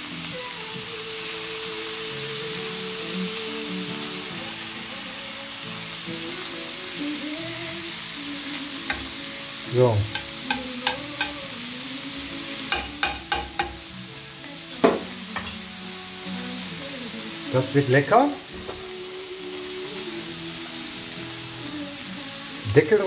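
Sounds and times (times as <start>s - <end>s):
vegetables sizzling in frying pan: 0.0s - 23.0s.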